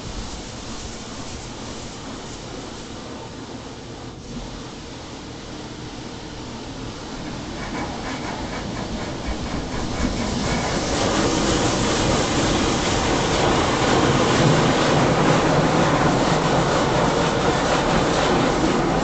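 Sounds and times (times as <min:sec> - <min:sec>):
water jets spraying car: 0:00.0 - 0:19.0.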